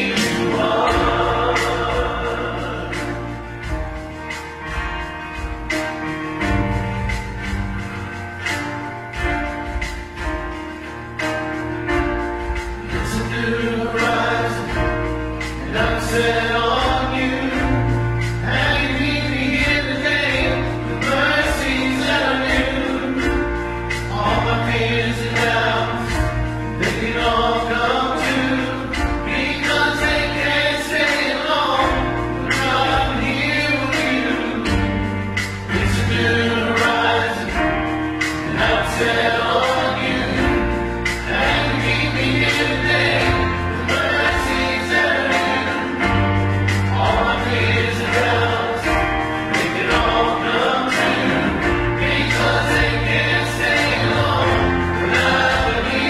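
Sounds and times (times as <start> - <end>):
bass line: 0.0 - 56.0
group singing worship song: 0.0 - 56.0
live band playing: 0.0 - 56.0.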